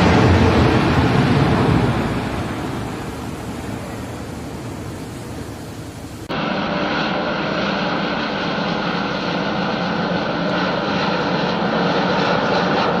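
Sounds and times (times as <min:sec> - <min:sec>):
jet aircraft flying over: 0:00.0 - 0:13.0.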